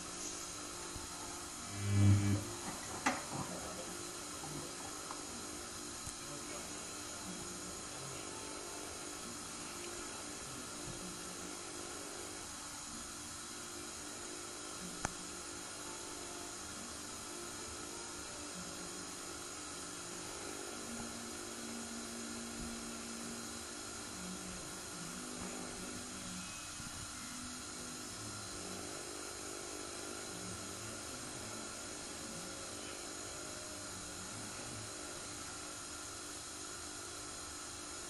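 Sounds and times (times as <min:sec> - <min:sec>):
washing machine whirring: 0:00.0 - 0:38.0.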